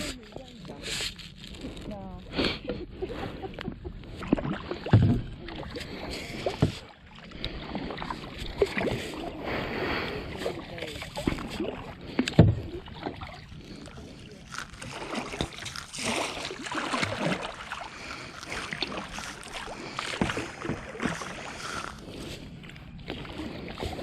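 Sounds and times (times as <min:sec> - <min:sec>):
kayak paddle splashing in water: 0:04.1 - 0:24.0.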